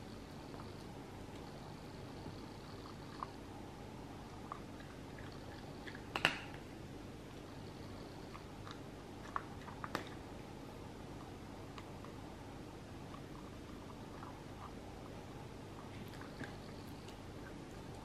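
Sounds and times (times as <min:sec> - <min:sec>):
puppy chewing food: 0:00.2 - 0:18.0.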